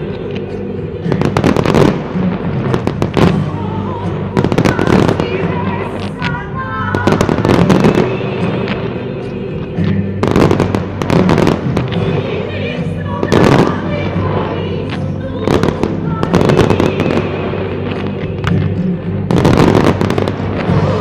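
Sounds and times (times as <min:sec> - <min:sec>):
fireworks banging and crackling: 0:00.0 - 0:21.0
music with sustained tones: 0:00.0 - 0:21.0.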